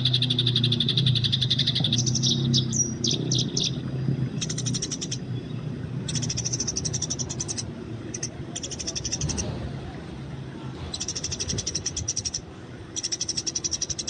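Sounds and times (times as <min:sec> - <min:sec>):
sparrows chirping: 0:00.0 - 0:09.7, 0:10.8 - 0:14.0.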